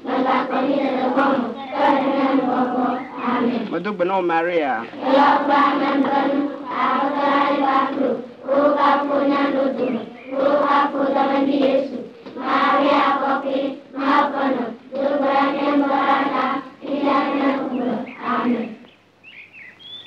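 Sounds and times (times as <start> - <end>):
children singing in unison: 0.0 - 3.8, 4.8 - 18.9.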